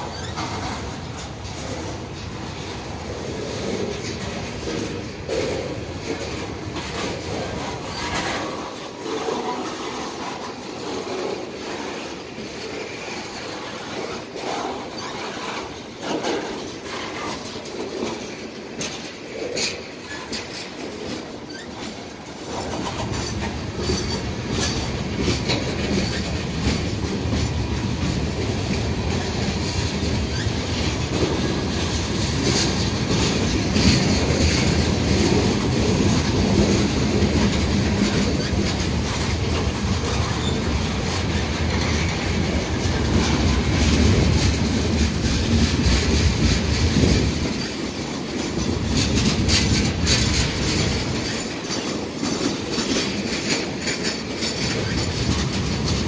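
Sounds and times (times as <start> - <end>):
freight train rumbling past: 0.0 - 56.0
wheels clicking over rail joints: 0.0 - 56.0.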